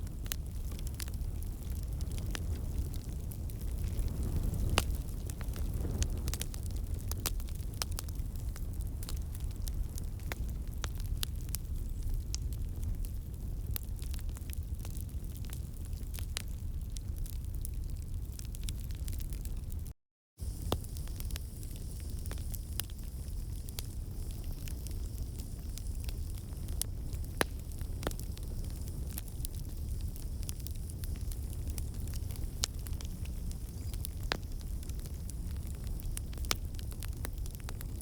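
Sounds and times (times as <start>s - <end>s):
wood fire popping and snapping: 0.0s - 19.7s, 20.4s - 38.0s
low rumble of burning: 0.0s - 38.0s.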